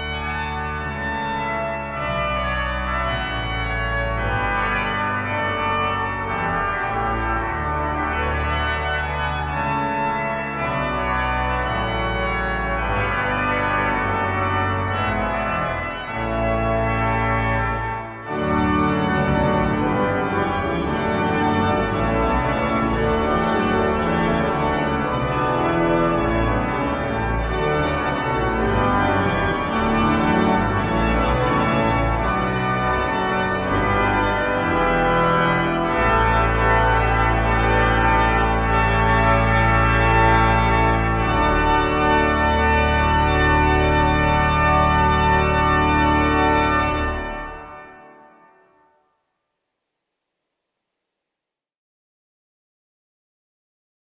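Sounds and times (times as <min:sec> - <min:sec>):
pipe organ playing chords: 0:00.0 - 0:48.8.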